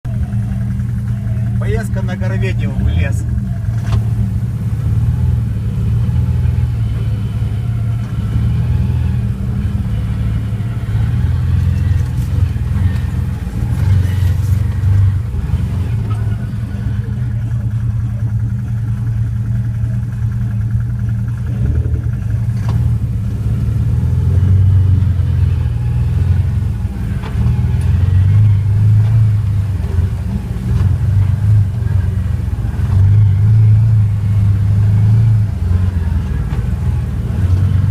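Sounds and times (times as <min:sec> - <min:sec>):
car engine running while driving: 0:00.0 - 0:37.9.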